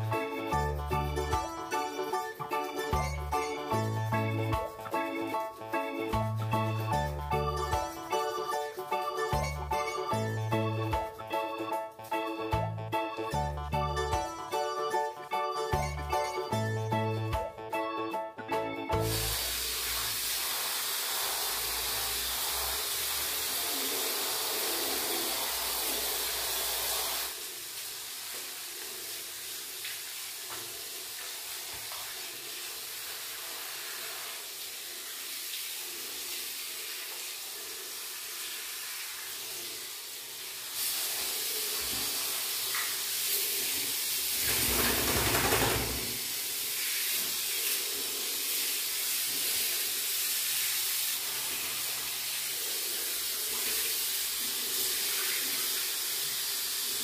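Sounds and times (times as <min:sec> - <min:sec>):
shower head spraying water: 0:00.0 - 0:12.5, 0:19.0 - 0:57.0.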